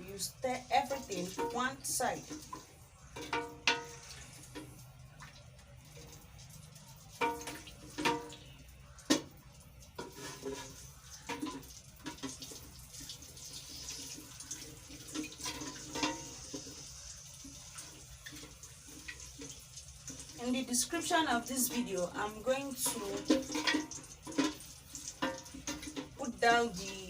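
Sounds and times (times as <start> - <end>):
liquid stirred in container: 0.5 - 27.0.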